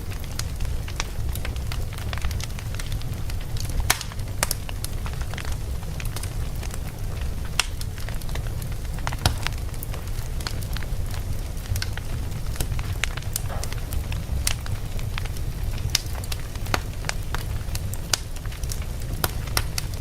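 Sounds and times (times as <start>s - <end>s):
crackles and pops of burning logs: 0.0s - 20.0s
fire rumbling: 0.0s - 20.0s.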